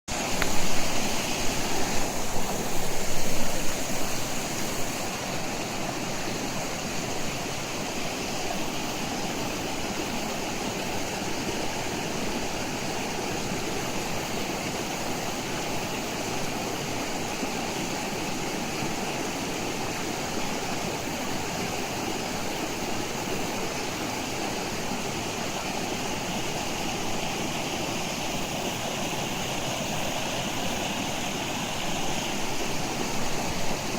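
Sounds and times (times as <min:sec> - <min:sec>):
stream water rushing: 0:00.1 - 0:33.9.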